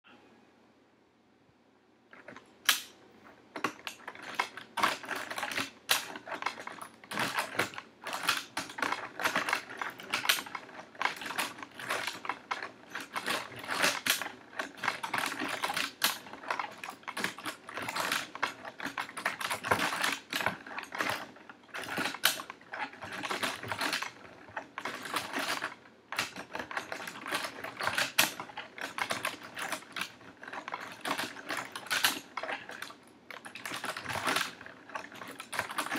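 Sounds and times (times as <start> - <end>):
plastic mechanism clicking and clacking: 2.1 - 35.9.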